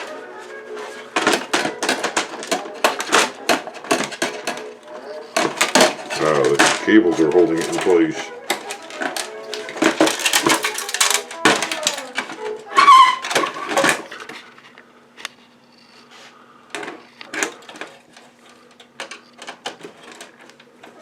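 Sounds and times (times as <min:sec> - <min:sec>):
computer parts clicking and rattling: 0:00.8 - 0:14.4, 0:16.7 - 0:21.0.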